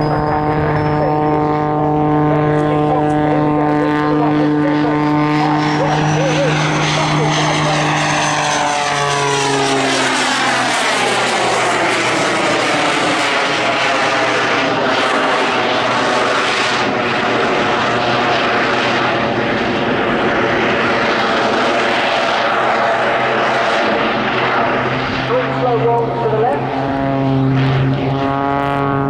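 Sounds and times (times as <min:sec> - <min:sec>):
propeller plane engine in flight: 0:00.0 - 0:29.0.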